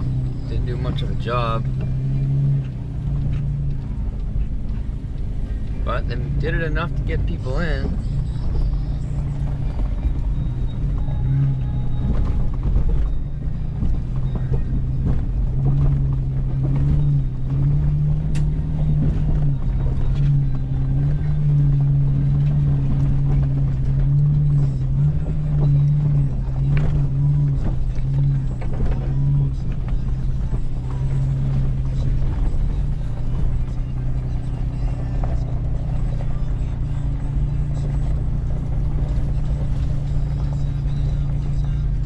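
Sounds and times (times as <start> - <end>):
car body rattling over bumps: 0.0 - 42.0
car engine running from inside cabin: 0.0 - 42.0.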